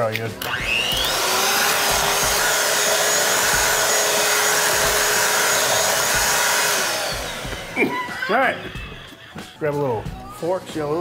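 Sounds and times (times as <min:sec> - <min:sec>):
electric hand mixer whine: 0:00.4 - 0:09.4.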